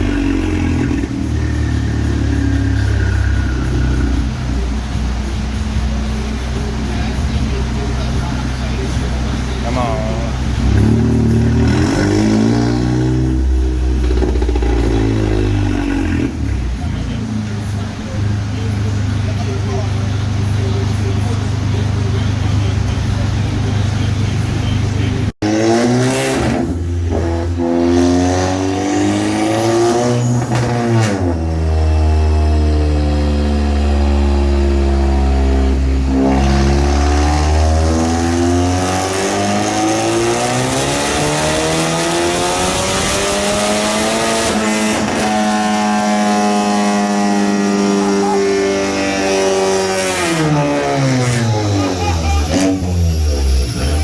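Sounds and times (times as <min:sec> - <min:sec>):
car engine climbing in pitch: 0:00.0 - 0:54.0.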